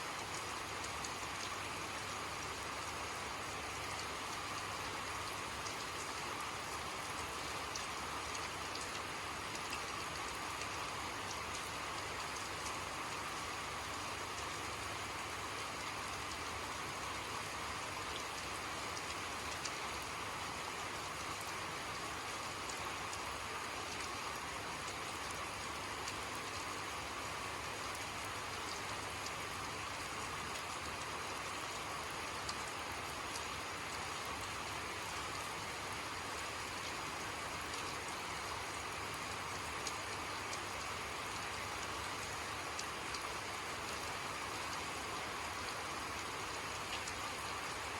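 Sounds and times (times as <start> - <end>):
steady rain falling: 0.0 - 47.9
rain drop ticks: 0.1 - 14.8, 15.5 - 35.6, 36.2 - 47.9.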